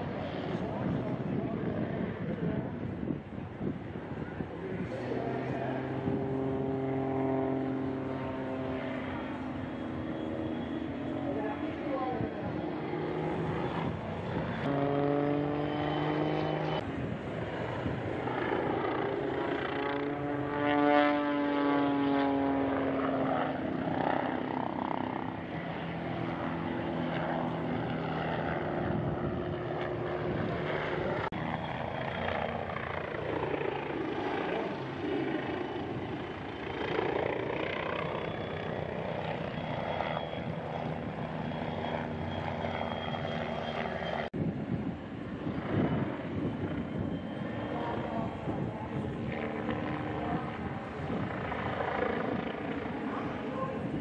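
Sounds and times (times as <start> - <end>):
propeller aircraft droning overhead: 0.0 - 54.0.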